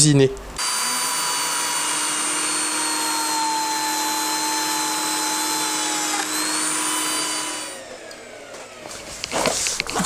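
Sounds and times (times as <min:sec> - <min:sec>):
joiner cutting wood whine: 0:00.6 - 0:10.0.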